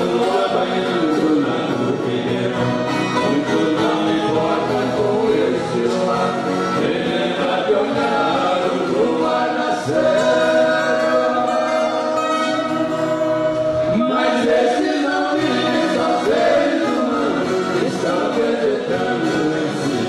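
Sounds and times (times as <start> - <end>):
guitar orchestra playing: 0.0 - 20.0
voices singing together: 0.0 - 20.0.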